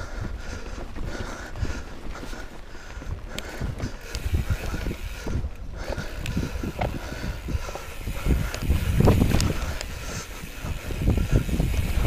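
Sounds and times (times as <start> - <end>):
bike rattling: 0.0 - 12.0
wind buffeting microphone: 0.0 - 12.0
bike tyres rumbling over rocks: 0.2 - 12.0.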